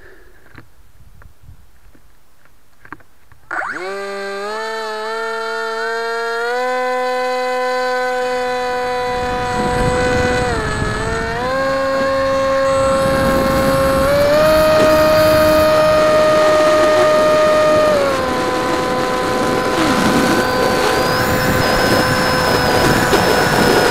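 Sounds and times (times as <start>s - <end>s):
electric motor and propeller whining: 3.4s - 23.9s.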